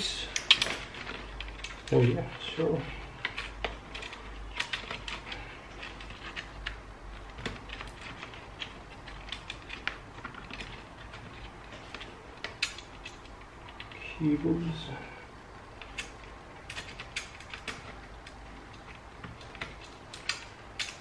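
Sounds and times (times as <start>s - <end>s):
laptop parts clicking: 0.3s - 14.0s, 15.6s - 21.0s.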